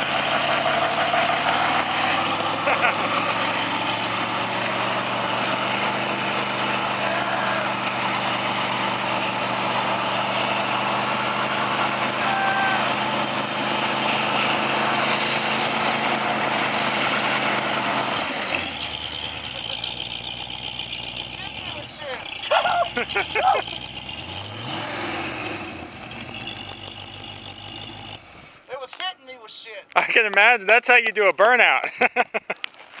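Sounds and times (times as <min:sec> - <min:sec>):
buggy engine revving: 0:00.0 - 0:28.7.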